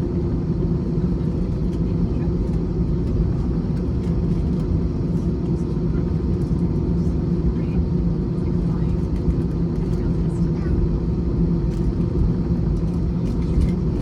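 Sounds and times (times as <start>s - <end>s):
aircraft engine rumble in cabin: 0.0s - 14.0s.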